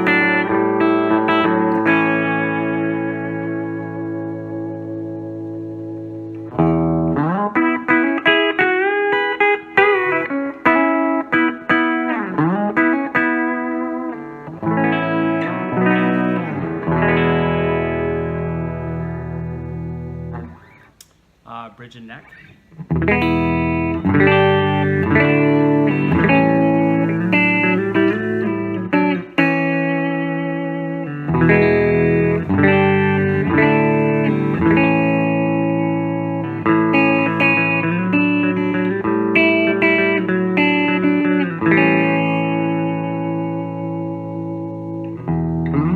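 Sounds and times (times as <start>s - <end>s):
electric guitar notes and chords: 0.0s - 21.4s, 22.2s - 45.9s.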